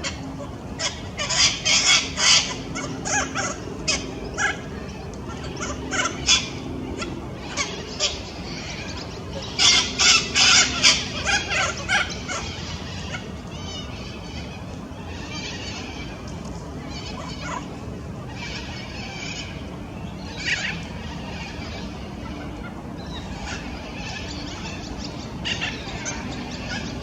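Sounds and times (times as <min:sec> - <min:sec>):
cockatoos screeching: 0:00.8 - 0:16.2, 0:20.3 - 0:27.0.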